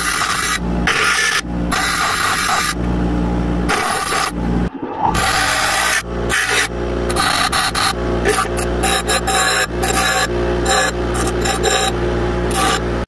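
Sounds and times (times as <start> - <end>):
knife blade grinding on wheel: 0.0 - 2.8, 3.7 - 4.4, 5.1 - 13.0
bench grinder motor hum: 0.0 - 2.9, 3.6 - 13.0.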